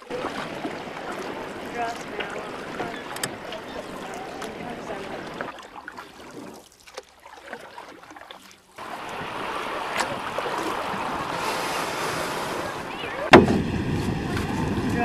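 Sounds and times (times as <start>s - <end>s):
open water: 0.0s - 15.0s
wind: 0.0s - 15.0s.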